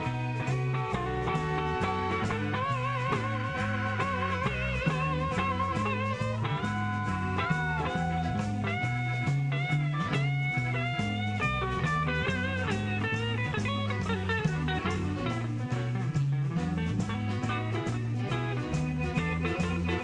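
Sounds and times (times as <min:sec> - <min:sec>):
bass line: 0:00.0 - 0:20.0
drums: 0:00.0 - 0:20.0
electric guitar lead: 0:00.0 - 0:20.0.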